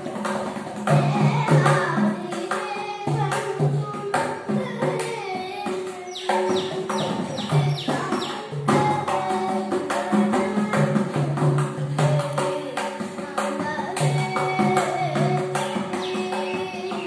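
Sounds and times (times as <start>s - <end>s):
hand drum played fast: 0.0s - 17.0s.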